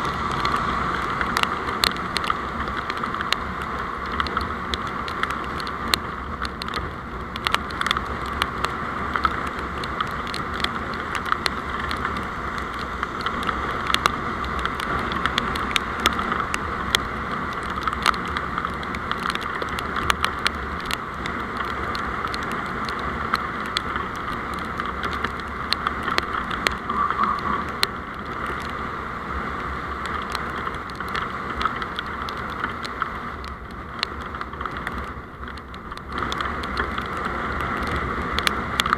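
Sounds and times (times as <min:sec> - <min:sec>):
road vehicle running noise: 0:00.0 - 0:38.9.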